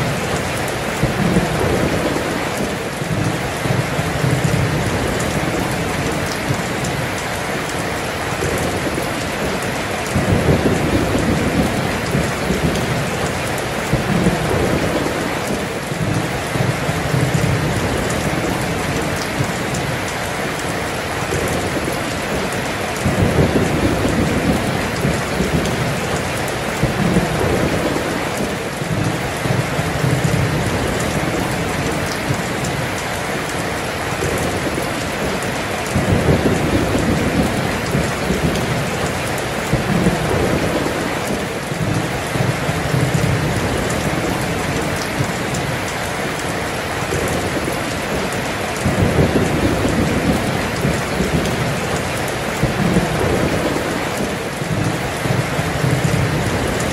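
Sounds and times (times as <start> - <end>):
rolling thunder: 0.0 - 7.0, 8.3 - 20.0, 20.7 - 32.8, 34.2 - 45.9, 46.5 - 56.9
heavy rain: 0.0 - 56.9.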